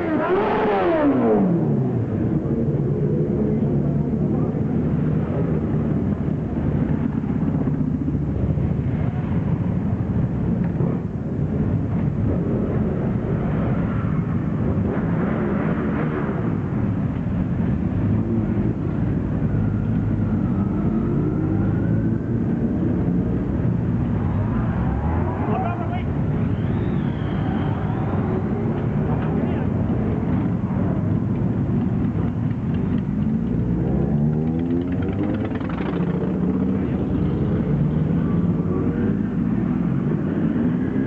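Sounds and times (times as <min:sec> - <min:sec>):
motorcycle engines revving past: 0:00.0 - 0:41.0.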